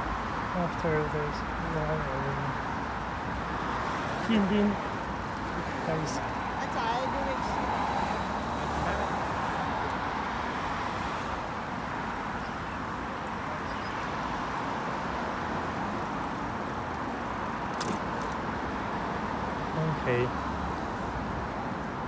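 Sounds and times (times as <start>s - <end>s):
traffic on a wet road: 0.0s - 22.0s.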